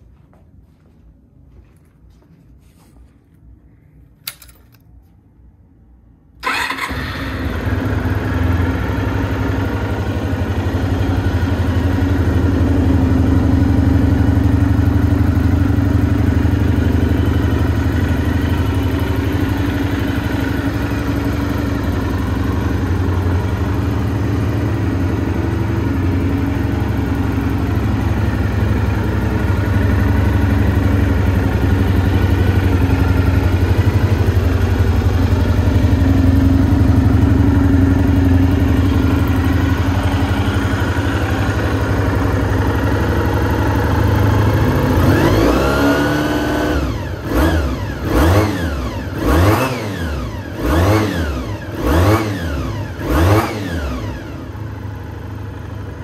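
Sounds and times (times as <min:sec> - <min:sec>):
motorcycle engine idling: 0:06.4 - 0:56.0.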